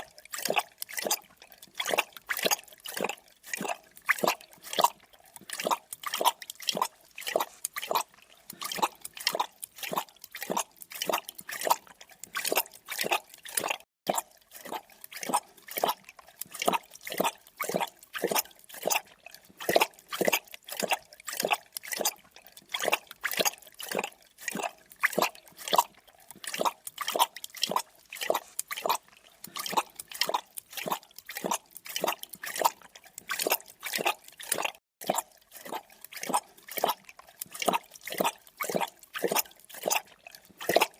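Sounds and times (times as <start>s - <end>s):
animal lapping liquid: 0.0s - 40.9s.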